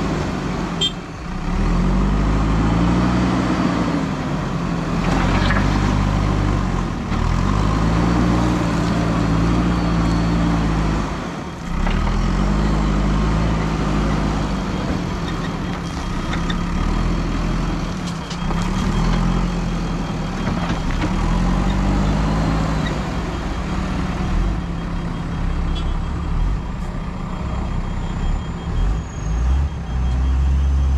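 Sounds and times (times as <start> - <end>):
diesel engine revving under load: 0.0 - 30.9.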